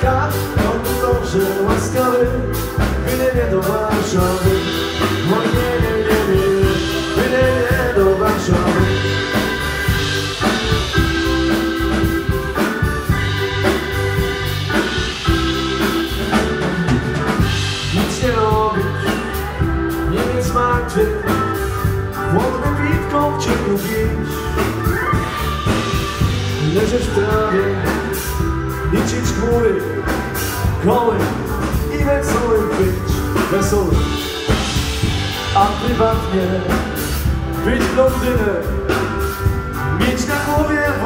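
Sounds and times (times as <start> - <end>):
drum kit beat: 0.0 - 41.0
live dance band playing: 0.0 - 41.0.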